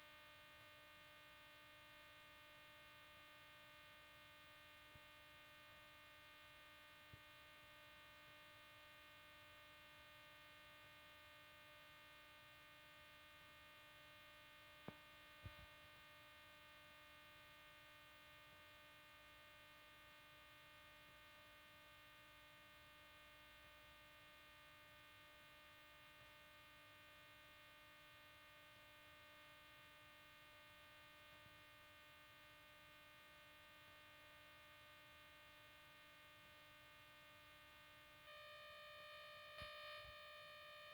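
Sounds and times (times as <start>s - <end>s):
faint electrical hum: 0.0s - 40.9s.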